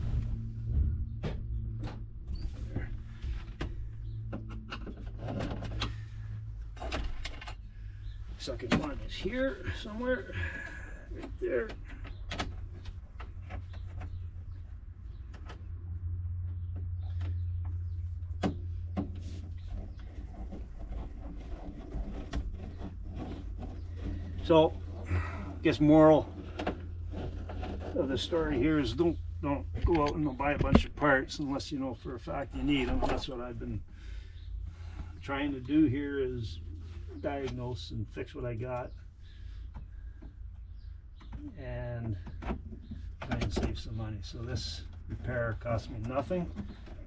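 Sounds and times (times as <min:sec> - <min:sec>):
steady low hum: 0:00.0 - 0:47.0
van engine idling: 0:00.0 - 0:47.0.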